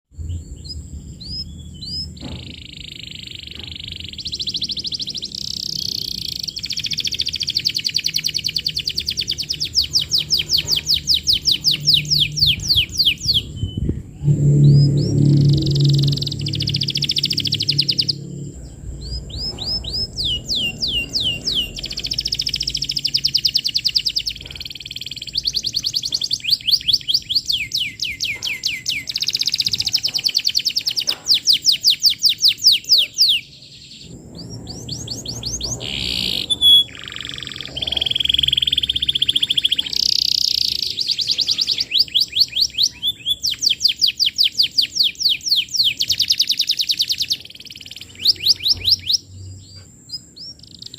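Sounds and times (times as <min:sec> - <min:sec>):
canary singing: 0:00.2 - 0:50.9.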